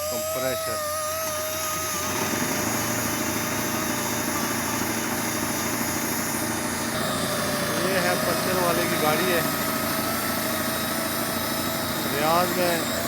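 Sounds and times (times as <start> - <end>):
air compressor engine running: 0.0 - 13.0
thin whine: 0.0 - 13.0.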